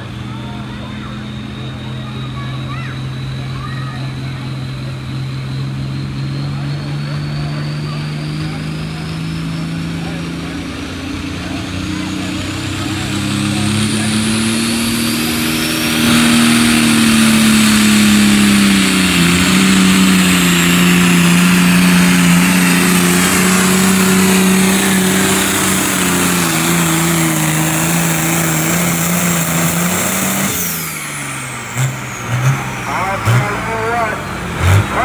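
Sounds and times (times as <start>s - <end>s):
tractor engine running under load: 0.0s - 35.0s
high whine falling in pitch: 0.4s - 32.2s.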